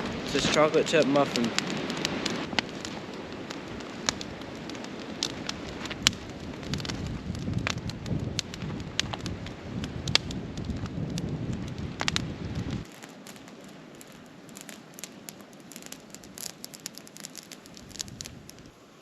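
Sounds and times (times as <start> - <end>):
campfire crackling and popping: 0.0 - 18.8.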